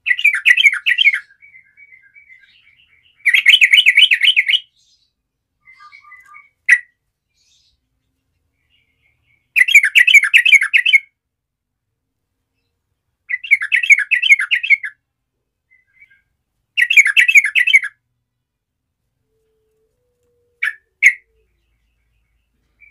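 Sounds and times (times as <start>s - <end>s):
bird chirping: 0.0s - 11.2s, 12.4s - 22.9s
bird song of fast repeated notes: 0.0s - 22.9s.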